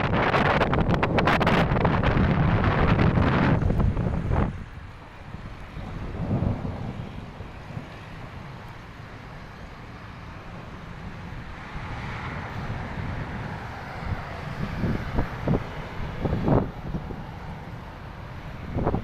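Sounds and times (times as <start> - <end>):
wind blowing: 0.0 - 19.0
wind buffeting microphone: 0.0 - 19.0.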